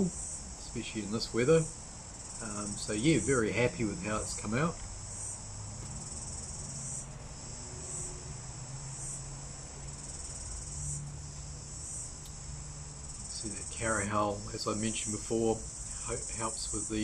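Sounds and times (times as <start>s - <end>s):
faint low hum: 0.0s - 17.0s
insects trilling: 0.0s - 17.0s.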